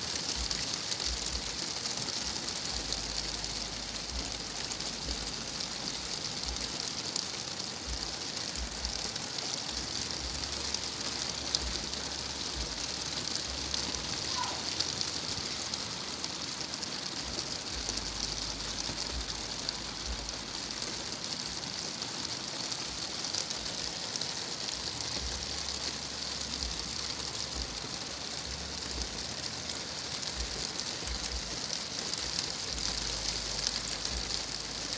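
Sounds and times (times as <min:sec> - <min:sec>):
rain falling steadily: 0:00.0 - 0:34.9.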